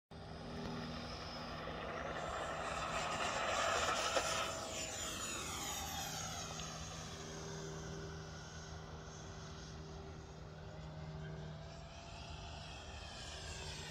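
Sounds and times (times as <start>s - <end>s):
electric ducted fan jet whining: 0.1s - 13.9s.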